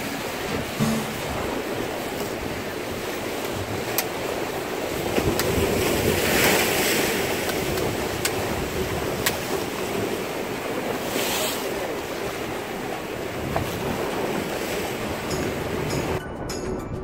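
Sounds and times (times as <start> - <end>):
waves washing against rocks: 0.0 - 16.2.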